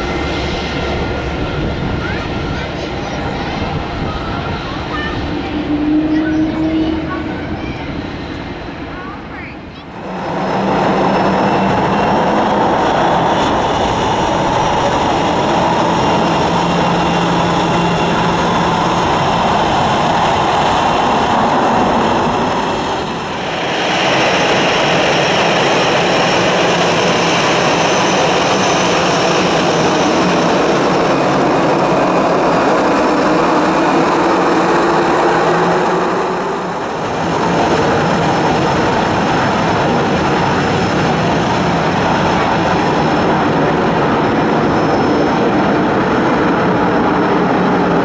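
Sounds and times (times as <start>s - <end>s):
jet engines at taxi power: 0.0s - 48.0s.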